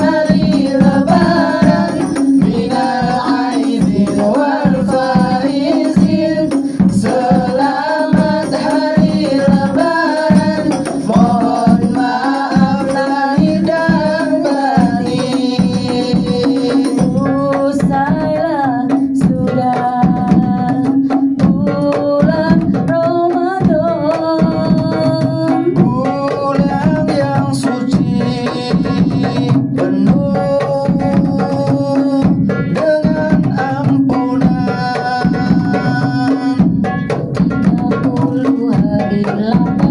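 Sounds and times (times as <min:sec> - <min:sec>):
frame drums playing: 0:00.0 - 0:39.9
people singing: 0:00.0 - 0:39.9.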